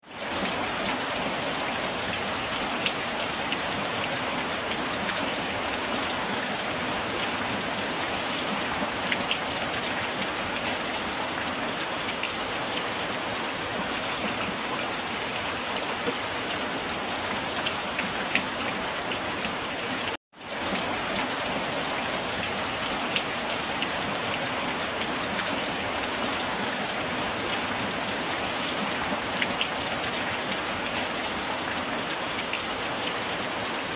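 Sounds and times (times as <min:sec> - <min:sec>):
sharp rain drops: 0:00.0 - 0:33.9
steady rain: 0:00.0 - 0:33.9.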